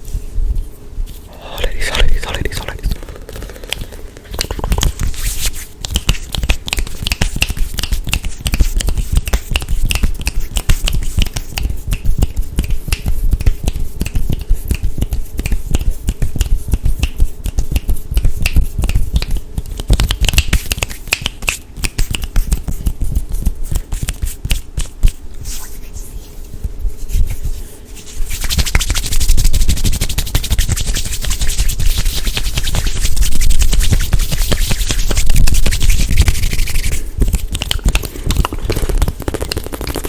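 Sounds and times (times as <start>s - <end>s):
rapid finger snaps and taps: 1.9s - 5.2s, 5.8s - 25.2s, 28.2s - 40.0s.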